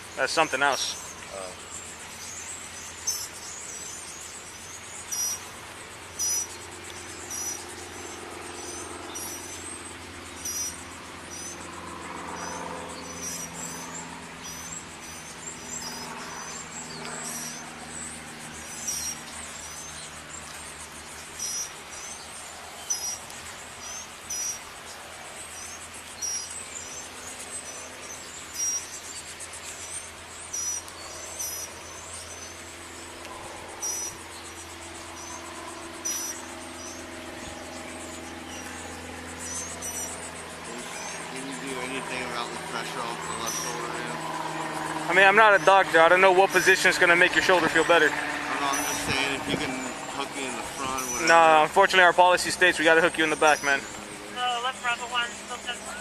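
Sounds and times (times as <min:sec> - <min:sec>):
insects chirping: 0:00.0 - 0:56.0
steady background hiss: 0:00.0 - 0:56.0.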